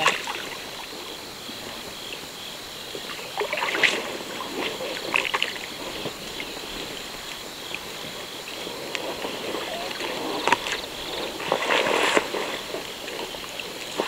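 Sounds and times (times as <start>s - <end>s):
paddle strokes: 0.0s - 14.0s
water sloshing around boat: 0.0s - 14.0s
water splashes: 0.0s - 14.0s.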